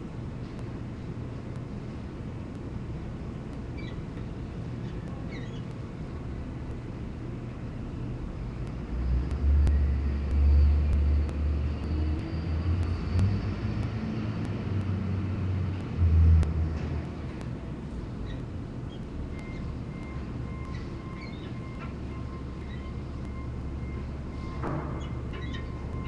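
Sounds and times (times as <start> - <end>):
outdoor background: 0.0 - 26.0.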